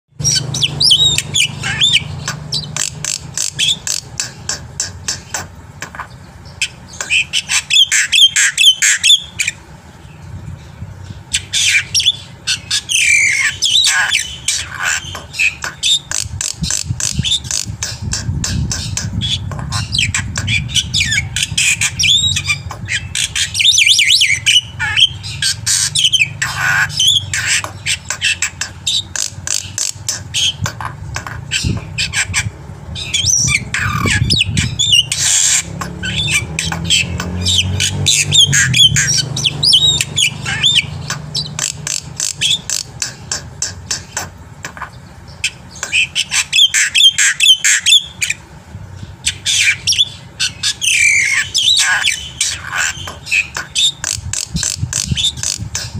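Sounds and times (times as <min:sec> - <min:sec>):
steady low hum: 0:00.1 - 0:55.9.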